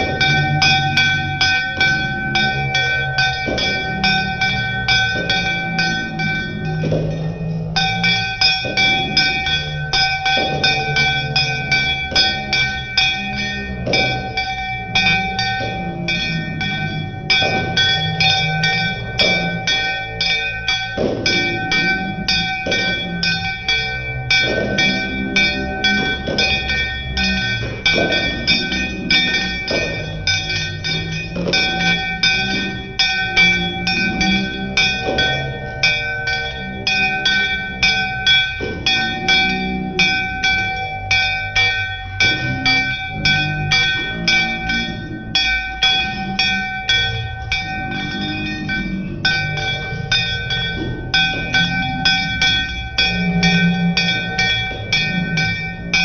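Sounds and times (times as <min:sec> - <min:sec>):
hand bell ringing rapidly: 0:00.0 - 0:56.0.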